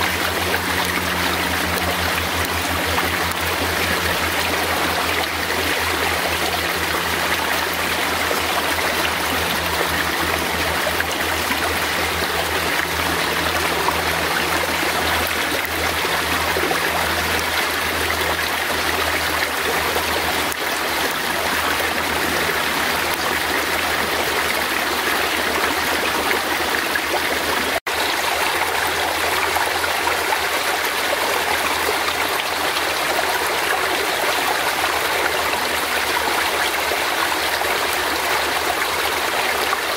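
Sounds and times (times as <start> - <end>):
forest stream rushing: 0.0 - 39.9.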